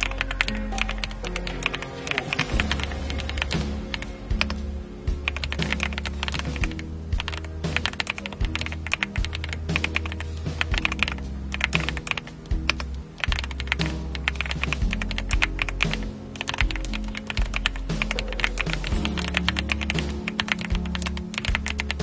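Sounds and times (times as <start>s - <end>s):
mechanical keyboard typing: 0.0s - 4.6s, 5.3s - 22.0s.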